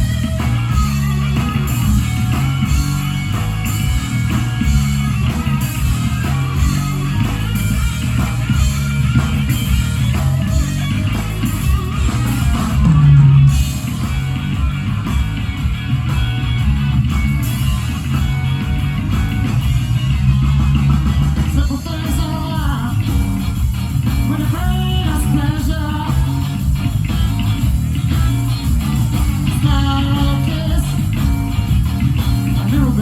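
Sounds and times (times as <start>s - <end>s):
blues-rock band playing: 0.0s - 33.0s
electric guitar: 0.0s - 33.0s.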